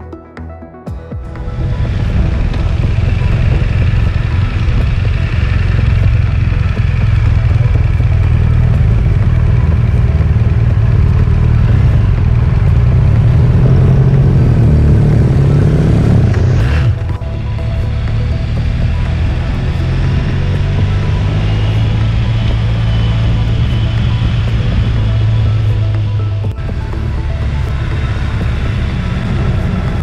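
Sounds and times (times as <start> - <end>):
motorcycle engine rumbling: 1.0 - 30.0.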